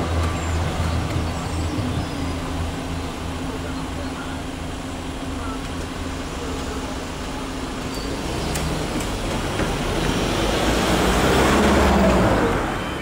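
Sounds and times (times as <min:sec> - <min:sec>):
cars driving over crossing: 0:00.0 - 0:13.0.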